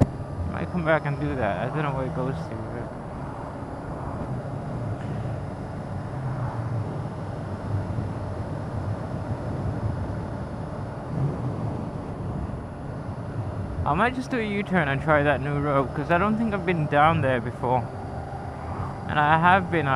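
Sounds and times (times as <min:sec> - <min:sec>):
motorcycle engine cruising: 0:00.0 - 0:19.9
wind and road noise: 0:00.0 - 0:19.9.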